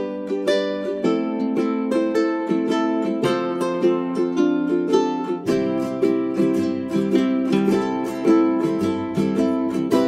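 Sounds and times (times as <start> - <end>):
plucked string instrument melody: 0.0 - 10.0.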